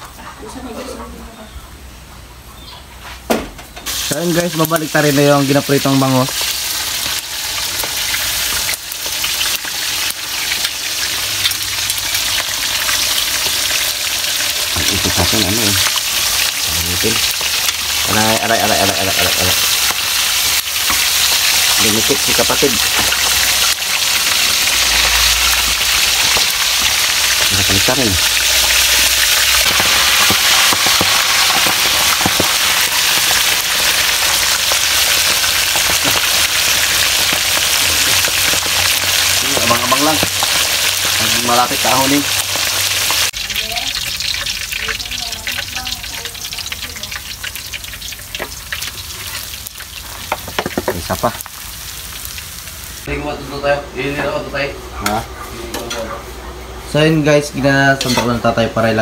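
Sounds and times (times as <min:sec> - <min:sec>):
fish deep-frying in oil: 0:03.9 - 0:54.4.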